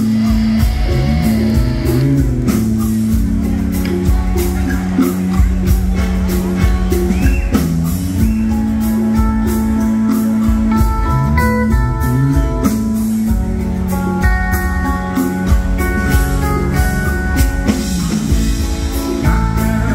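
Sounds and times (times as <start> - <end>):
drum kit beat: 0.0 - 19.9
electric and acoustic guitars: 0.0 - 19.9.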